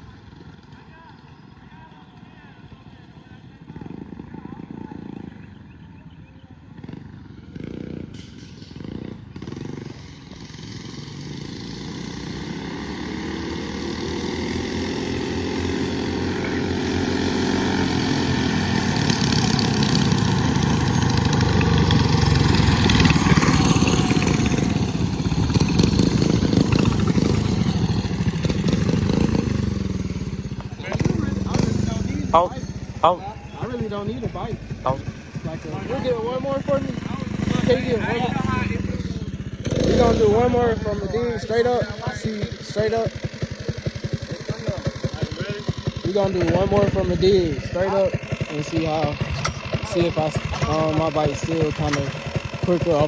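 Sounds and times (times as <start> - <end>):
minibike engines revving: 0.0 - 53.0.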